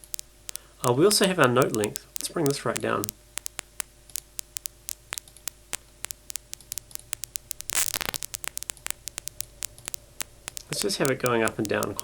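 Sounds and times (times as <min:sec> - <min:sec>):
synthesized paper crumple crackle: 0:00.0 - 0:12.0.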